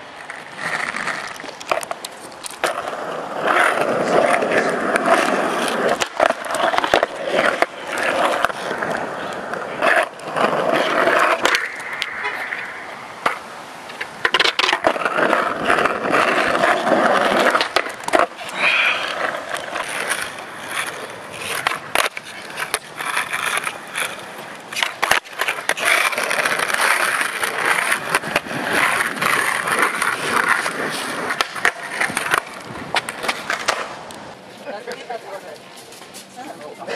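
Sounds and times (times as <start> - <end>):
skateboard clacking on landing: 0.0 - 35.2
skateboard wheels rolling on asphalt: 0.0 - 36.9.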